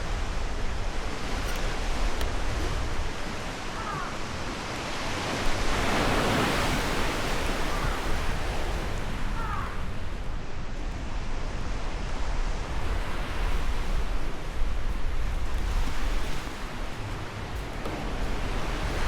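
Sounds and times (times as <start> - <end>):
low wind rumble: 0.0 - 19.0
ocean waves breaking ashore: 0.0 - 19.0.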